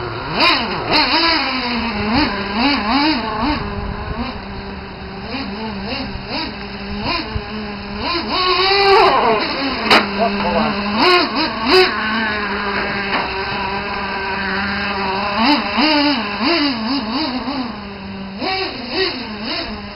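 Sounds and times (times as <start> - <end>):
small nitro engine revving: 0.0 - 19.9.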